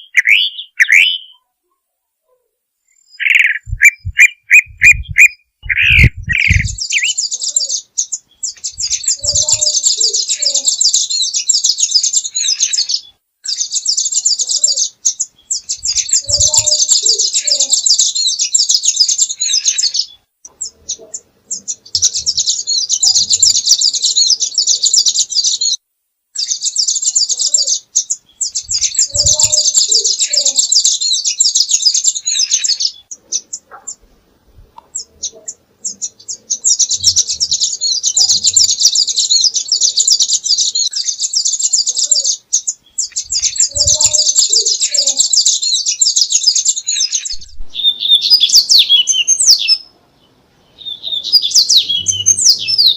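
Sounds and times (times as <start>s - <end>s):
songbird chattering song: 0.0s - 1.5s, 2.8s - 52.9s.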